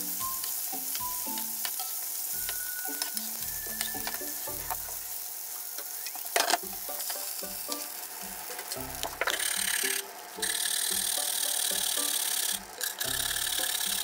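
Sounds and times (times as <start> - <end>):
steak sizzling in a frying pan: 0.0 - 14.0.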